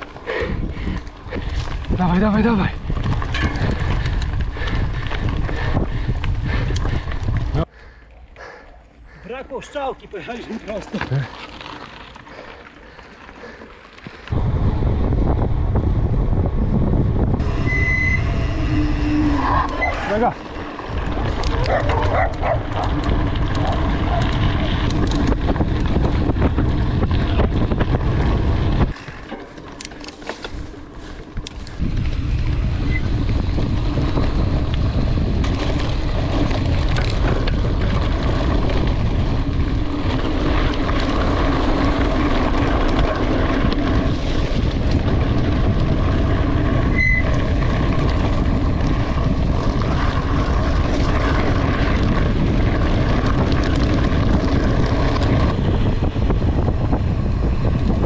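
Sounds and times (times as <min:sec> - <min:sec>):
bike tyres rumbling over gravel: 0:00.0 - 0:58.0
wind on microphone: 0:00.3 - 0:07.7, 0:14.3 - 0:29.2, 0:30.6 - 0:58.0.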